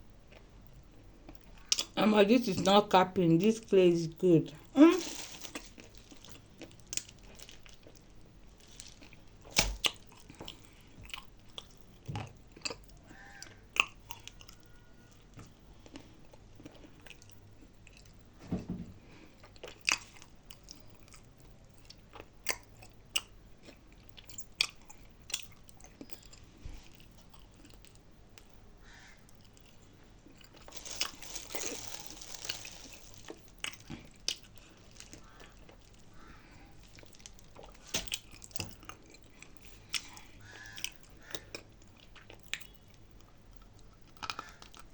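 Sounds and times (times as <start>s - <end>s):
chewing and crunching clay: 4.6s - 18.3s, 19.2s - 44.9s.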